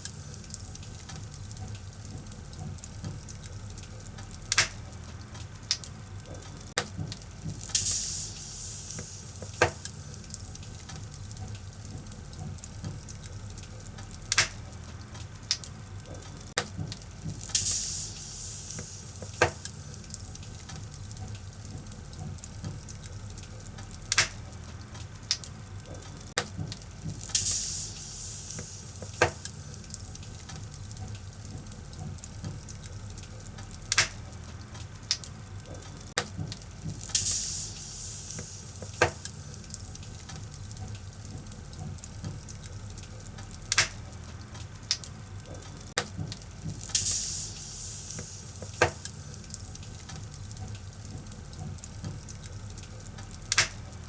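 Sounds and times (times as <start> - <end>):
firewood crackling and popping: 0.0 - 54.0
low fire rumble: 0.0 - 54.0.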